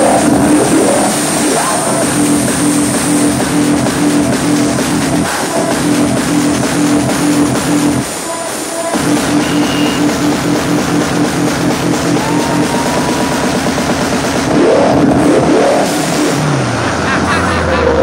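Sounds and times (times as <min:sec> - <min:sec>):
loud music with pulsing beat: 0:00.0 - 0:18.0.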